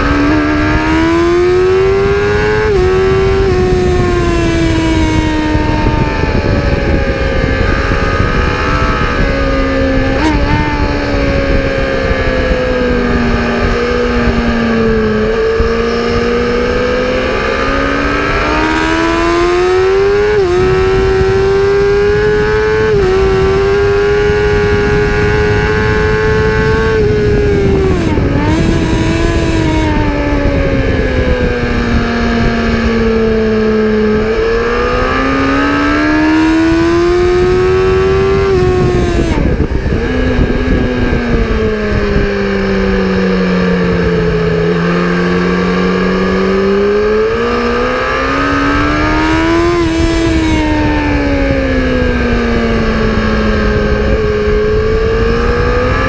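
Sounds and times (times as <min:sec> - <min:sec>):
racing engine revving: 0:00.0 - 0:56.0
wind and road noise: 0:00.0 - 0:56.0.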